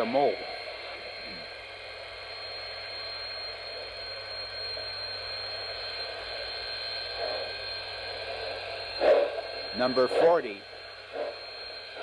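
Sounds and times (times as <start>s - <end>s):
recording hiss and hum: 0.0s - 12.0s.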